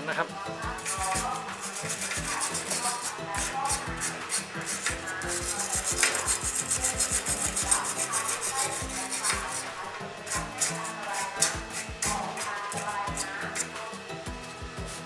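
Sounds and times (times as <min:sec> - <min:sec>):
wire brush scrubbing steel: 0:00.6 - 0:15.0.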